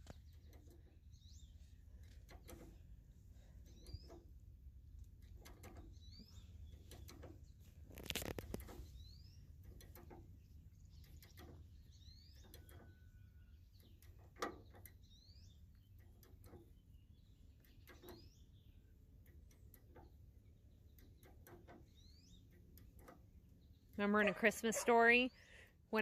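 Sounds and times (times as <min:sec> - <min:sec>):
faint bird chirps: 0:00.0 - 0:04.4, 0:05.5 - 0:25.6.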